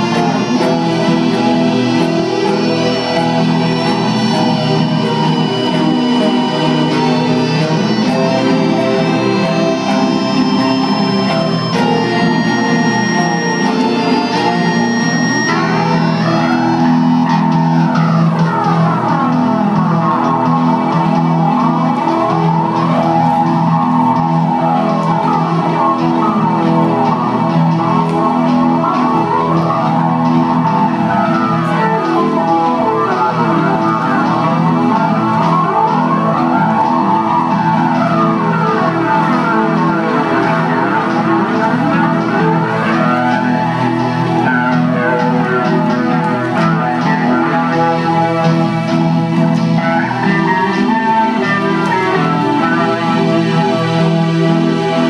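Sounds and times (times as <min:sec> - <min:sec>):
instrumental music: 0:00.0 - 0:55.0.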